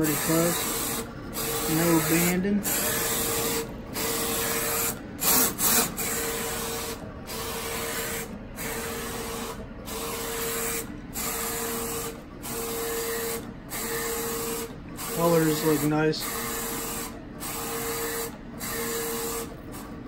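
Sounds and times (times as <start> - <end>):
printer carriage whirring: 0.0 - 20.0.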